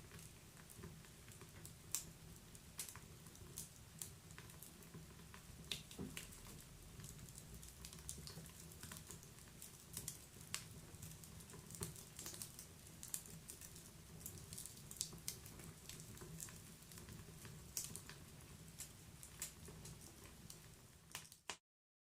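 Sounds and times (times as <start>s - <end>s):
wood fire crackling: 0.0s - 21.6s.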